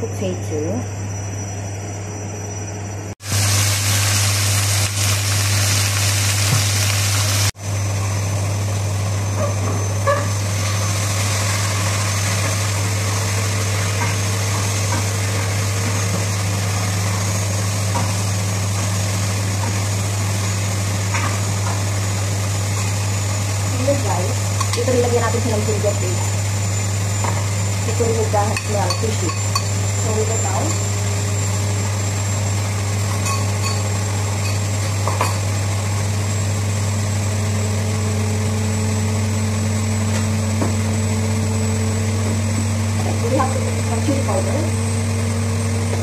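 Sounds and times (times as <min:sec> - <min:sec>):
extractor fan humming: 0:00.0 - 0:46.0.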